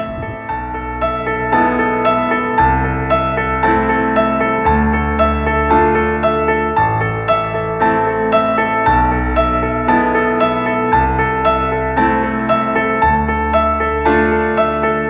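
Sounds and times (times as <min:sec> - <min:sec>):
classical piano music: 0:00.0 - 0:15.0.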